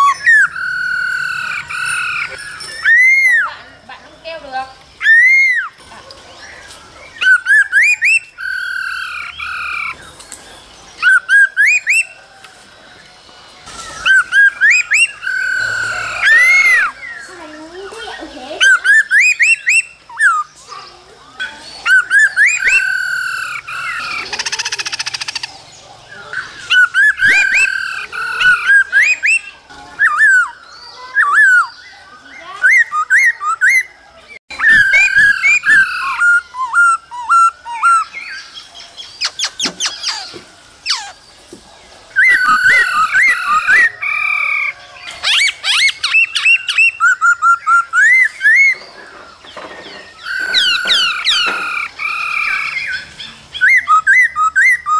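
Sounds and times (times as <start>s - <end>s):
bird singing whistled notes: 0.0s - 13.0s, 13.7s - 25.5s, 26.1s - 41.2s, 42.1s - 49.0s, 49.8s - 54.9s.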